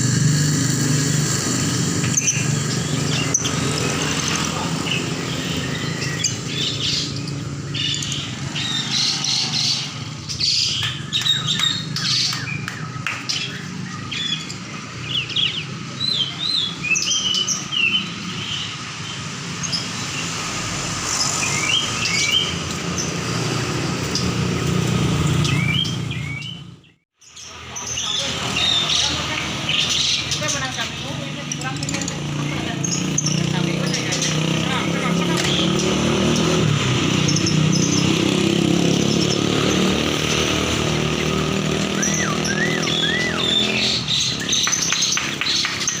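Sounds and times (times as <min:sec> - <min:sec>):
songbirds chirping: 0:00.0 - 0:46.0.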